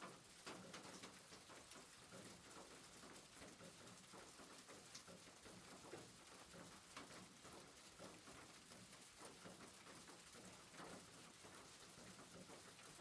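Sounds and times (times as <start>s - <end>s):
faint rain on a rooftop: 0.0s - 13.0s
raindrop ticks: 0.0s - 13.0s.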